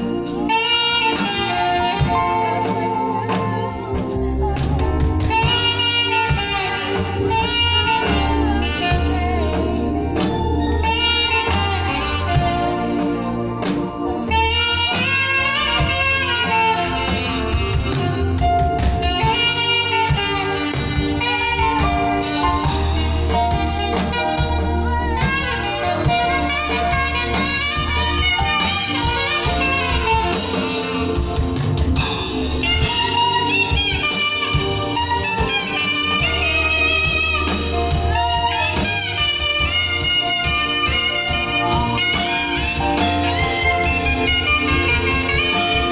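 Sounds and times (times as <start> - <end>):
band accompaniment with bass: 0.0 - 45.9
saxophone melody with vibrato: 0.0 - 45.9.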